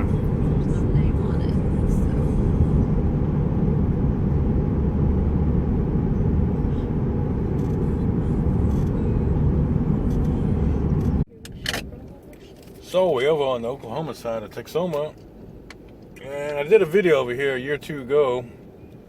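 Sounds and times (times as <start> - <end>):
road and wind noise in car: 0.0 - 19.0.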